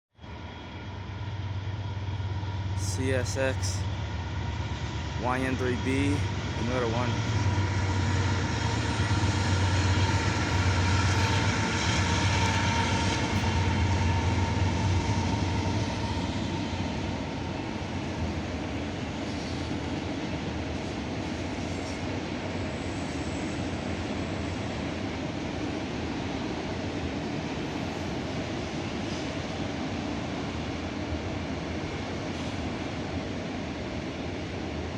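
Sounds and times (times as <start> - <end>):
diesel locomotive engine hum: 0.2 - 34.9
train cars rolling on rails: 6.3 - 34.9.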